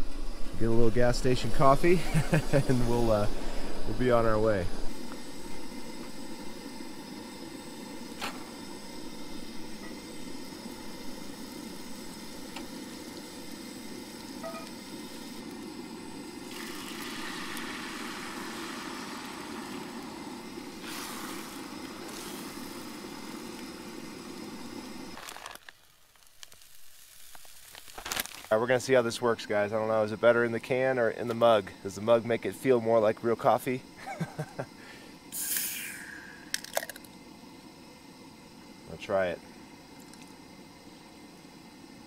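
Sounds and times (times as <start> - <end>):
camp stove burner roaring: 0.0 - 42.0
eggs sizzling in a skillet: 0.0 - 42.0.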